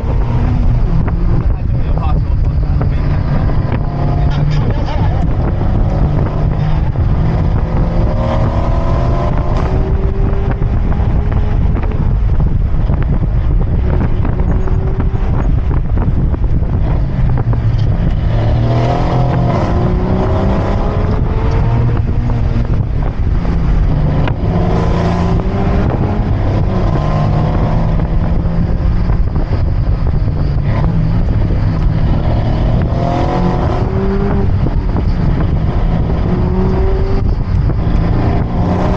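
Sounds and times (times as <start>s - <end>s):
car engine revving: 0.0s - 38.9s
road noise rumble: 0.0s - 38.9s.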